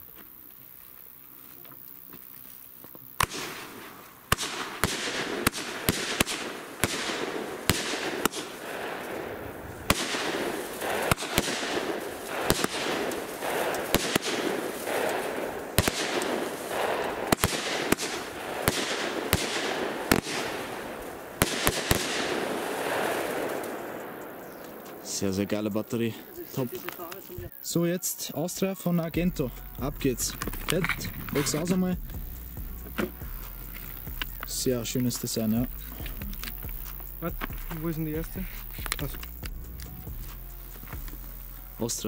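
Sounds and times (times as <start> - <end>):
crackle of bursting stars: 0.0 - 27.7, 29.1 - 42.0
firework bangs: 1.6 - 27.6, 29.1 - 42.0.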